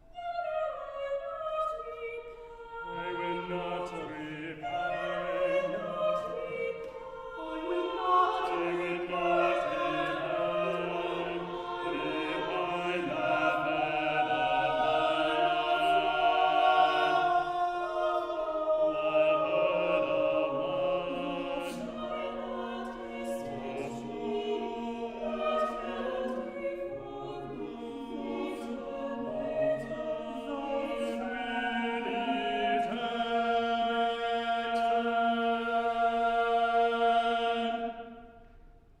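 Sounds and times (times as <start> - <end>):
church choir singing: 0.0 - 39.0.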